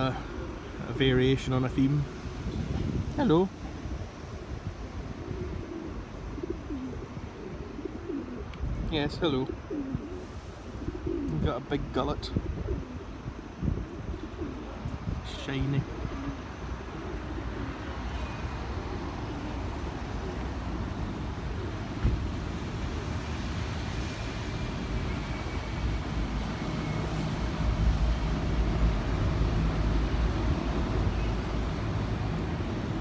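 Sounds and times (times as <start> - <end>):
city traffic rumble: 0.0 - 33.0.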